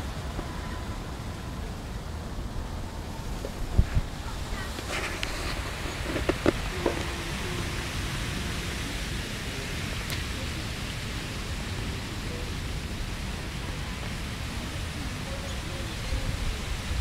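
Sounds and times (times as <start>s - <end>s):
faint distant voices: 0.0s - 17.0s
outdoor background hiss: 0.0s - 17.0s.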